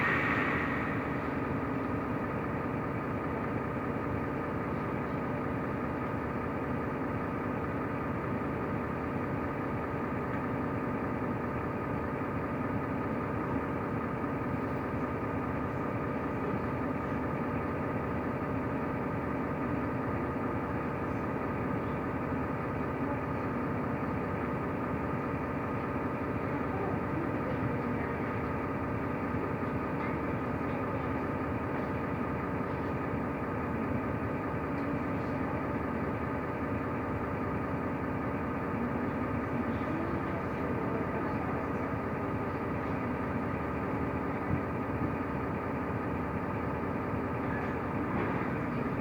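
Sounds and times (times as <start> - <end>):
bus engine humming: 0.0 - 49.0.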